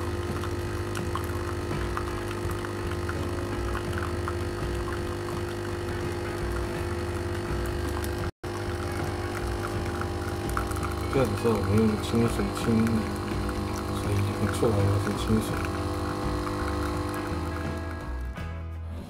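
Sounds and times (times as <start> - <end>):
water streaming into a cup: 0.0 - 18.3
coffee machine pump humming: 0.0 - 18.4.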